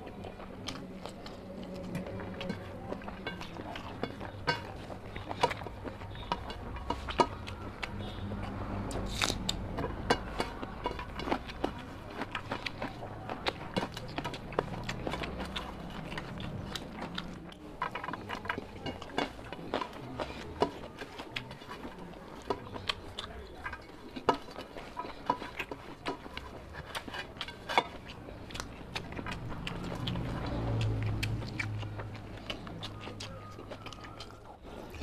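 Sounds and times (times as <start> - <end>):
chewing and lip-smacking: 0.0 - 35.0.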